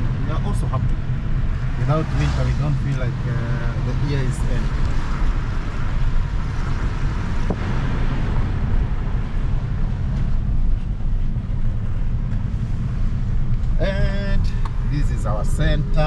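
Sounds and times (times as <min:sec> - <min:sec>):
low road rumble in car cabin: 0:00.0 - 0:16.0.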